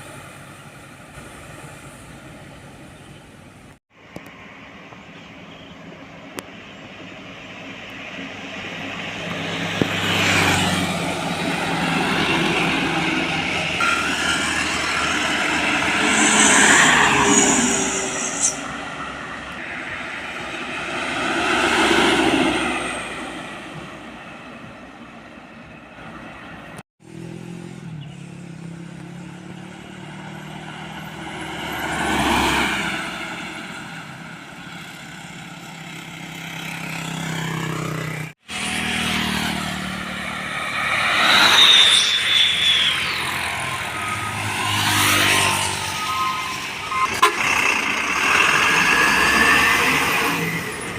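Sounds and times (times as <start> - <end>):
vehicles passing: 0.0 - 50.9.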